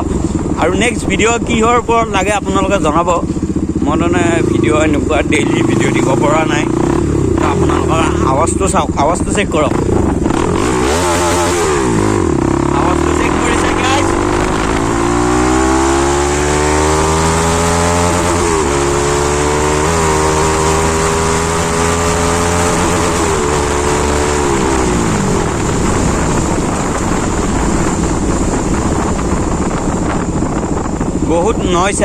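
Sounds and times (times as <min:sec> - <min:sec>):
motorcycle engine revving: 0:00.0 - 0:32.0
wind noise on microphone: 0:00.0 - 0:32.0.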